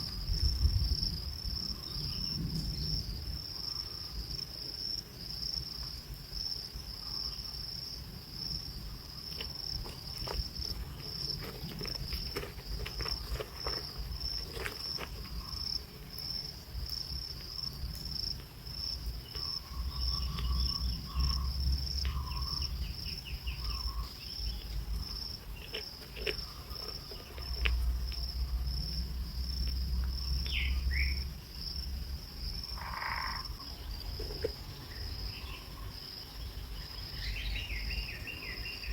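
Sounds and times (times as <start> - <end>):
high-pitched insect trill: 0.0 - 38.9.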